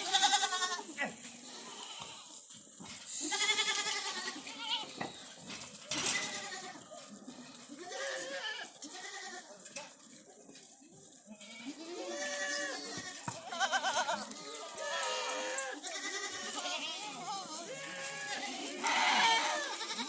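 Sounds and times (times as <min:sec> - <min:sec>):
goats bleating: 0:00.0 - 0:02.4, 0:03.1 - 0:05.1, 0:06.0 - 0:09.5, 0:11.3 - 0:20.0.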